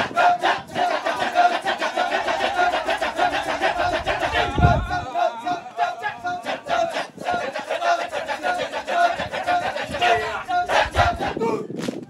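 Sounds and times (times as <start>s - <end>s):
held sung tone: 0.0s - 11.8s
male chorus rhythmic chanting: 0.0s - 11.8s.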